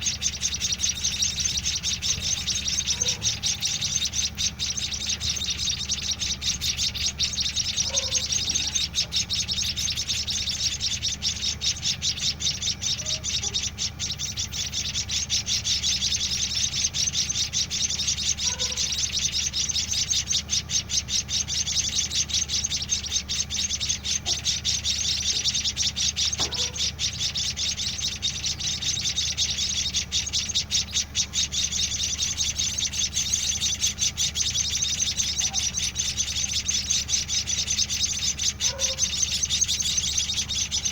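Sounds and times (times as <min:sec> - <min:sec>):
chicks begging chirps: 0:00.0 - 0:40.9
steady low hum: 0:00.0 - 0:40.9.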